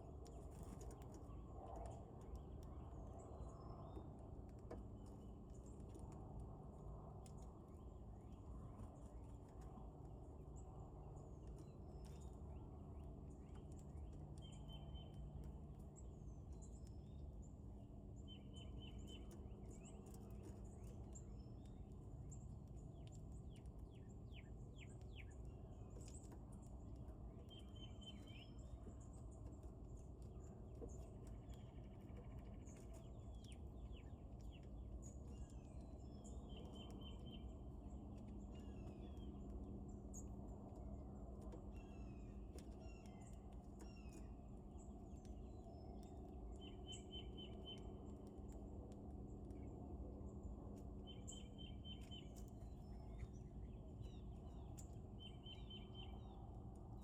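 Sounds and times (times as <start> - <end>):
low background rumble: 0.0 - 57.0
wild birds chirping: 6.7 - 57.0.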